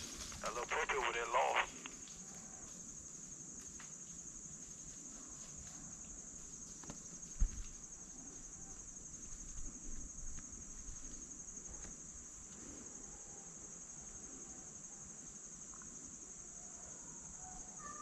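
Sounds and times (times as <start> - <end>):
high-pitched insect trill: 1.8 - 18.0.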